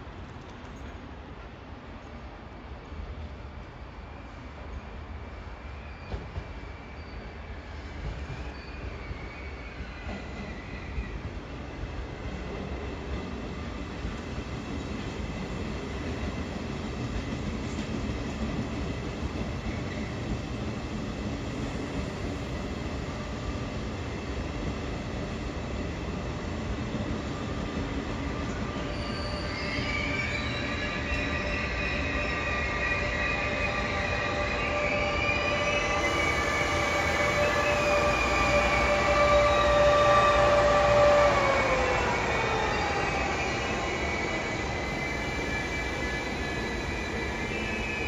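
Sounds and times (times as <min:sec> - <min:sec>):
train rumbling slowly: 0:00.0 - 0:48.0.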